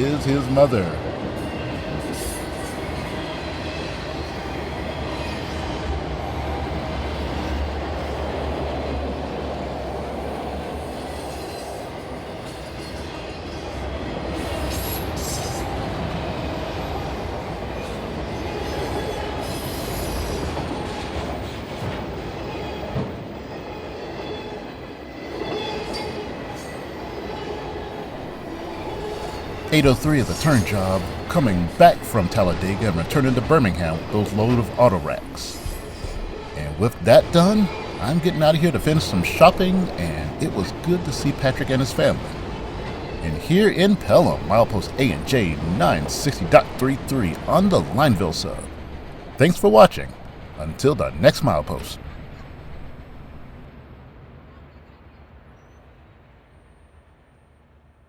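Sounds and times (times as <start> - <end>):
freight train wheels rumbling on rail: 0.0 - 55.5.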